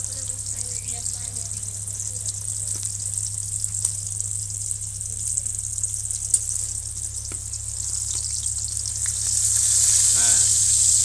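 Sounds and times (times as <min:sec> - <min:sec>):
oil popping: 0:00.0 - 0:11.0
oil sizzling hiss: 0:00.0 - 0:11.0.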